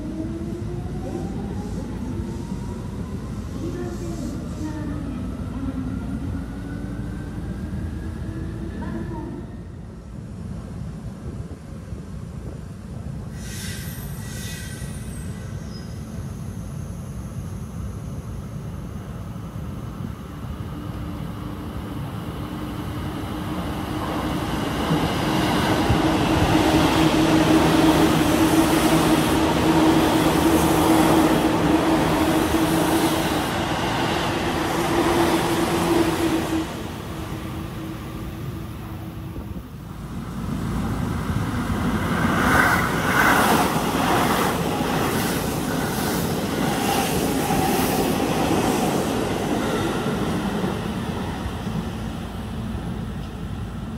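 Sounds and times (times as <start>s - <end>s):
train rumbling past: 0.0s - 53.9s.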